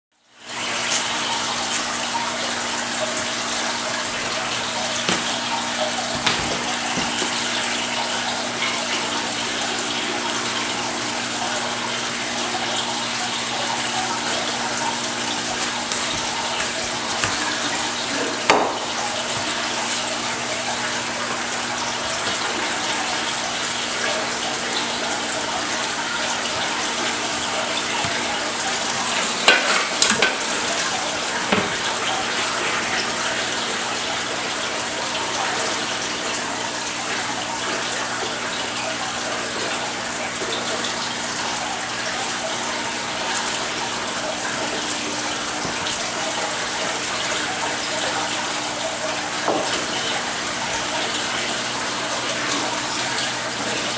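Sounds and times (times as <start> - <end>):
circulating water rushing: 0.2 - 53.9.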